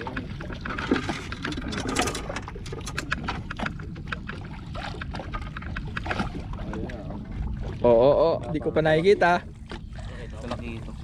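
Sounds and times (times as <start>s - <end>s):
water splashing against boat hull: 0.0s - 11.0s.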